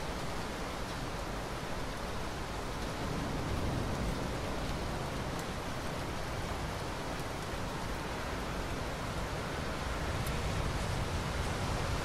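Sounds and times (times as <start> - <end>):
steady rain hissing: 0.0 - 12.0.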